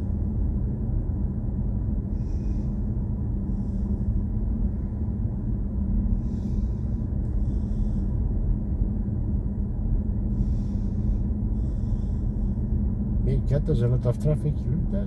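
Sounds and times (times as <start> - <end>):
faint steady hum: 0.0 - 15.0
road and tyre rumble in car: 0.0 - 15.0.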